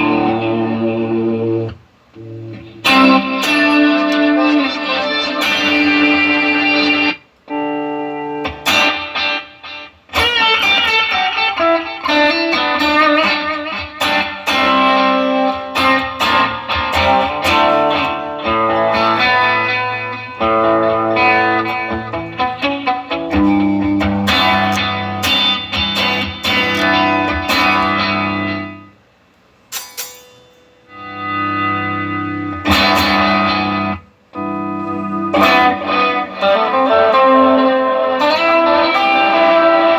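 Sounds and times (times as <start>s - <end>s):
electric guitar playing: 0.0s - 29.1s, 29.7s - 39.9s.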